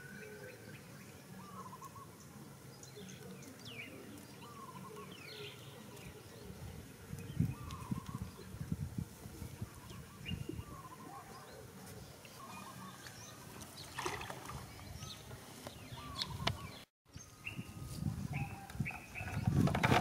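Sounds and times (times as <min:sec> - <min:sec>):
bird chirps: 0:00.0 - 0:08.6, 0:09.8 - 0:19.6.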